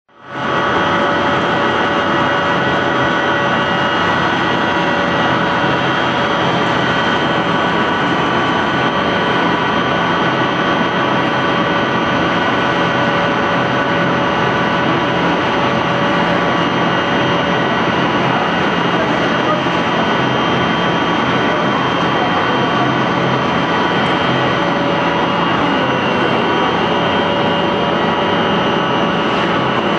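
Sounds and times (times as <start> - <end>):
machine whining tones: 0.4 - 29.9
pellet mill running: 0.4 - 29.9.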